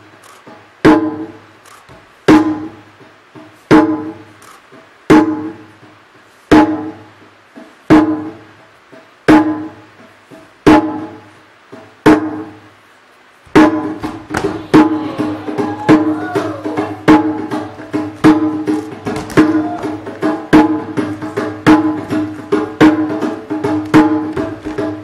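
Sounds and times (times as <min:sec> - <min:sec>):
drum beats with pitched tone: 0:00.0 - 0:12.7, 0:13.5 - 0:25.0.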